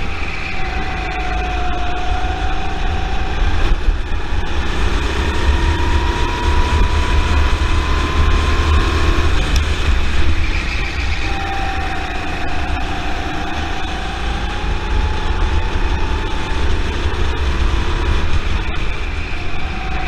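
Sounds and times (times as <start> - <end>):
go-kart engine running: 0.0 - 20.0
wind rumble on camera: 0.0 - 20.0.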